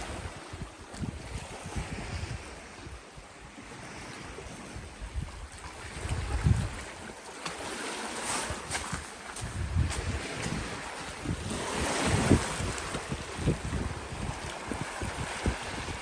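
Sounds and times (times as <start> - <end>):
sea waves: 0.0 - 16.0
wind buffeting microphone: 0.0 - 16.0.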